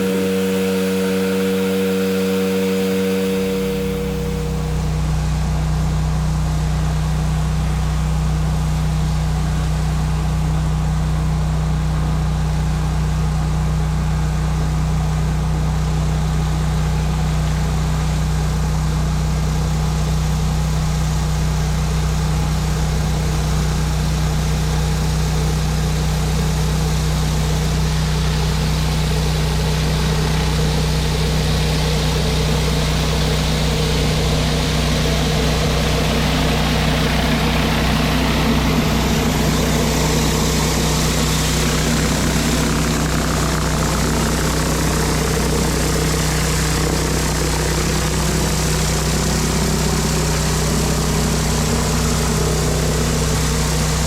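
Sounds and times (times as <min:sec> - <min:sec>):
pressure washer engine hum: 0:00.0 - 0:08.3, 0:13.8 - 0:54.0.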